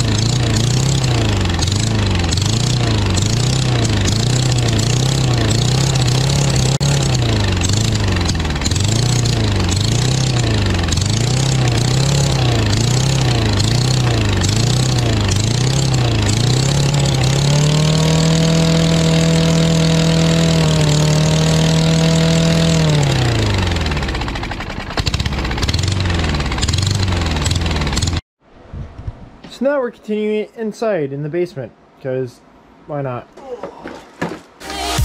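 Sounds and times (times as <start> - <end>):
push-mower engine surging: 0.0 - 28.2.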